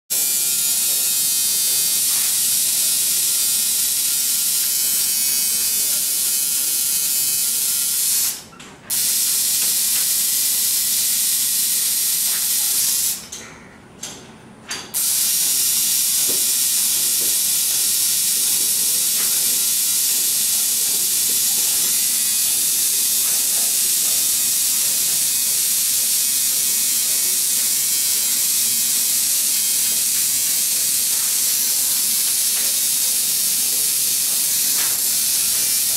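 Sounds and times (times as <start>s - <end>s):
tattoo machine buzzing: 0.1s - 13.4s, 14.9s - 35.9s.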